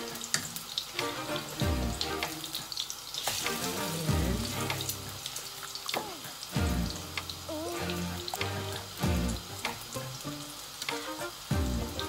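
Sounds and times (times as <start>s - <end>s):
background music: 0.0s - 12.0s
fritters sizzling in hot oil: 0.0s - 12.0s.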